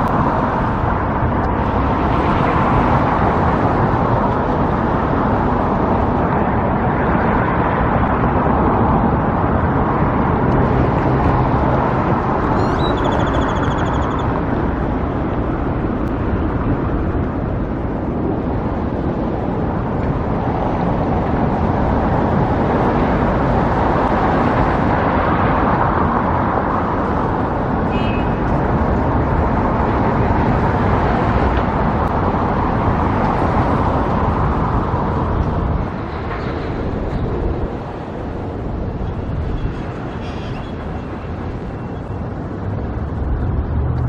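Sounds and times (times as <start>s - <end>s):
road traffic rushing: 0.0s - 44.0s.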